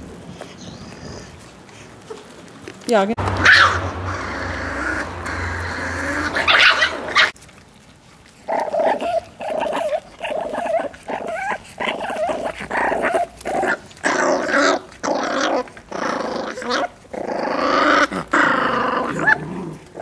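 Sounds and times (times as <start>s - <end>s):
puppies growling: 0.0s - 2.6s, 3.2s - 20.0s.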